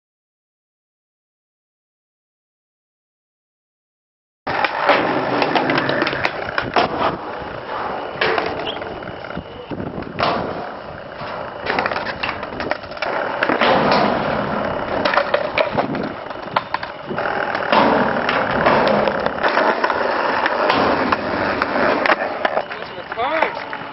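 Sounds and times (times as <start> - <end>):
skateboard clacks: 4.5 - 23.9
skateboard wheels rolling on concrete: 4.5 - 23.9.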